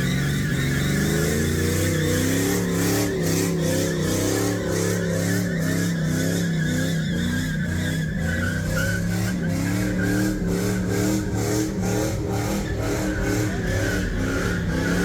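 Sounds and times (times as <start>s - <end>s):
car engine revving: 0.0s - 15.0s
tires squealing: 0.0s - 15.0s.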